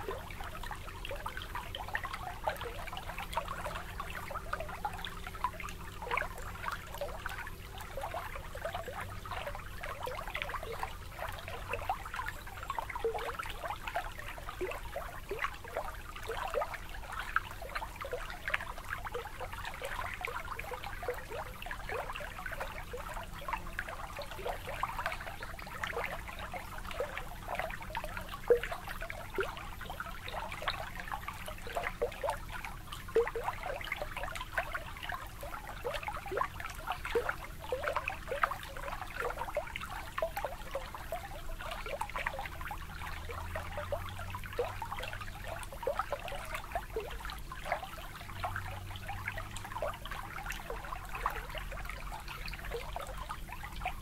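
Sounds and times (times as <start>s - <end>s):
water lapping at shoreline: 0.0s - 54.0s.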